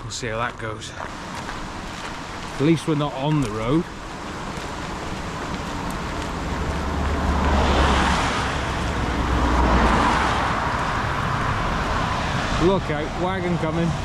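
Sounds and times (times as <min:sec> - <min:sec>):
vehicle passing on road: 0:00.3 - 0:14.0.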